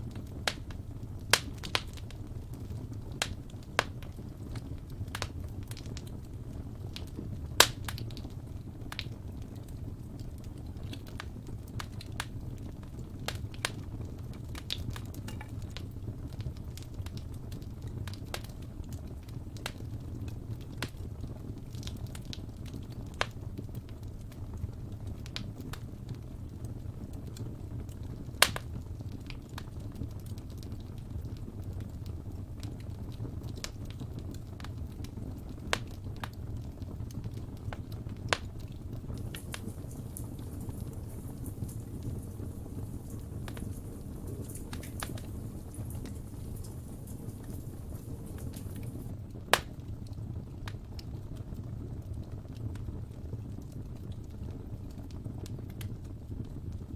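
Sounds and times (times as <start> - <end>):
low rumble of flames: 0.0 - 56.9
wood fire crackling and popping: 0.0 - 56.9.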